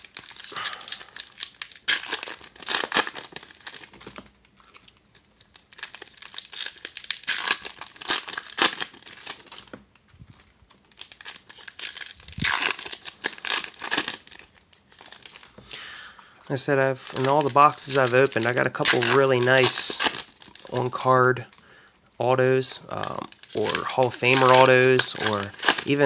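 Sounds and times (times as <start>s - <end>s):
cards rustling: 0.0s - 15.8s, 16.5s - 21.4s, 22.2s - 26.0s
foil wrappers crinkling and tearing: 0.0s - 15.8s, 16.4s - 26.0s.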